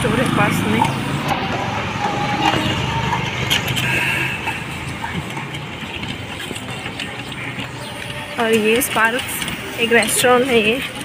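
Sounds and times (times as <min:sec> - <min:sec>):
car engine running: 0:00.0 - 0:11.0
street noise: 0:00.0 - 0:11.0.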